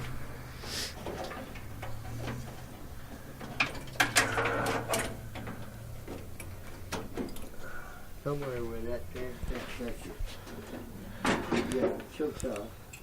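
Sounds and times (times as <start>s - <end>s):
metallic clanks and rattles: 0.0s - 13.0s
steady low hum: 0.0s - 13.0s.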